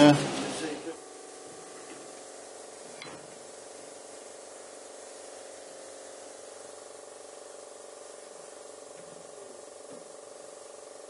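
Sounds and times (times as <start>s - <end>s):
steady hum with hiss: 0.0s - 11.0s.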